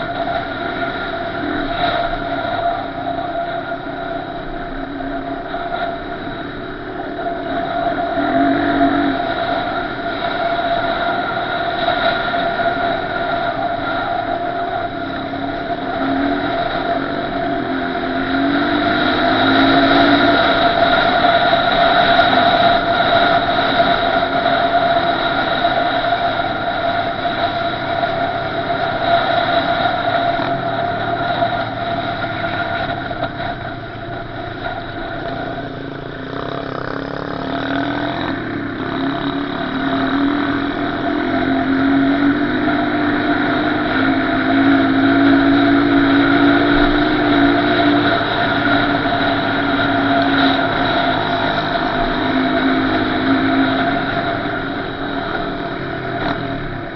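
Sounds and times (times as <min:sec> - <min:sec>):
small motorbike engine revving: 0:06.1 - 0:56.9.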